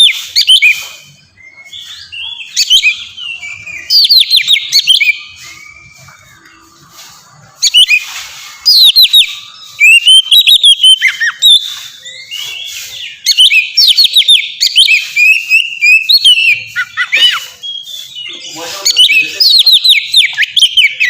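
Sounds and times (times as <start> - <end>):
bird singing whistled notes: 0.0 - 21.0.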